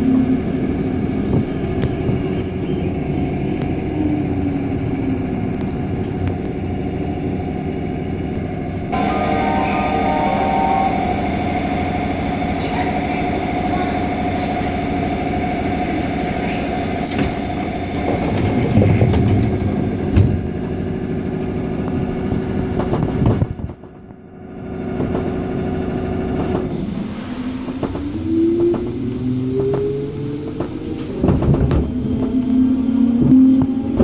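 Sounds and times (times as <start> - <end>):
train motor hum: 0.0 - 23.7, 24.8 - 34.0
train wheels on rails: 0.0 - 24.2, 24.8 - 34.0.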